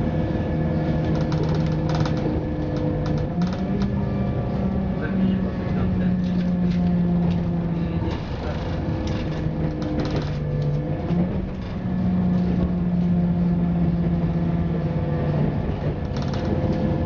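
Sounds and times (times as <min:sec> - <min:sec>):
diesel engine hum: 0:00.0 - 0:17.0
wheel and rail noise: 0:00.0 - 0:17.0.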